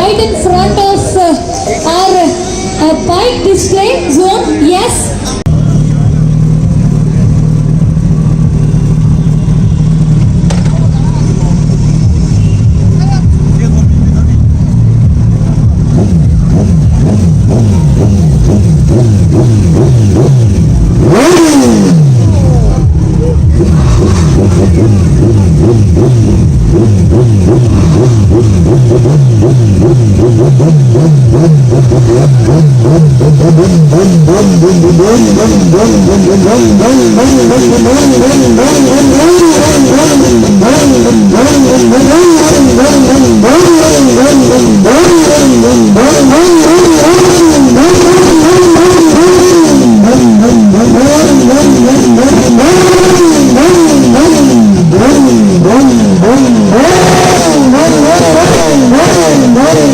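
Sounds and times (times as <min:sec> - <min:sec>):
engine revving loudly: 0:10.9 - 0:59.9.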